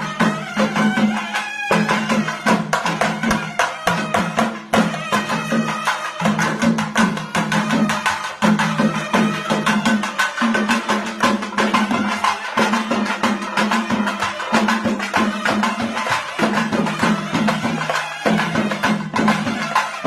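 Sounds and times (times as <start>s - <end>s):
fast percussion music: 0.0s - 20.0s.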